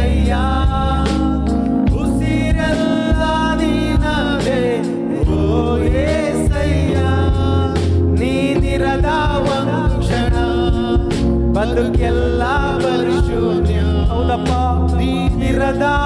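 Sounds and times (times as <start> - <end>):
band playing: 0.0 - 16.0
drum beats: 0.0 - 16.0
person singing worship song: 0.0 - 16.0
steady bass: 0.0 - 16.0.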